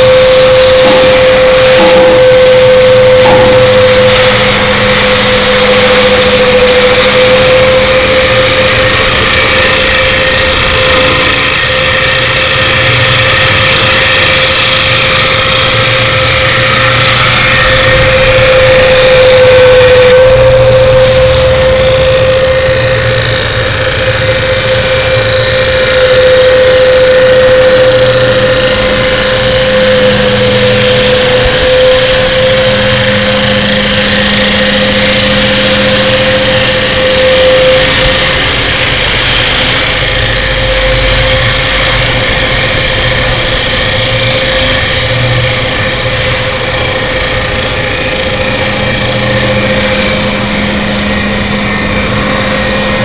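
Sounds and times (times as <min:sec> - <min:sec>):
rushing machining noise: 0:00.0 - 0:53.0
wood lathe motor whine: 0:00.0 - 0:53.0.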